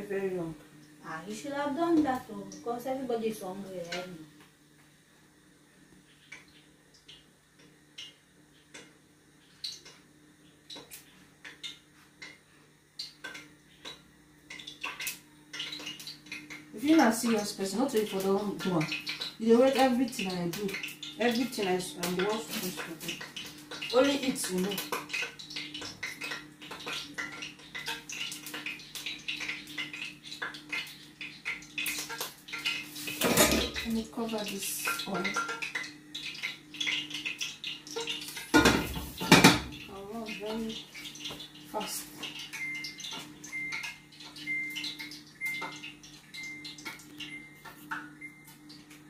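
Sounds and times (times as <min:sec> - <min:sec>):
pot ticking and crackling: 0:00.0 - 0:04.9, 0:05.9 - 0:49.0.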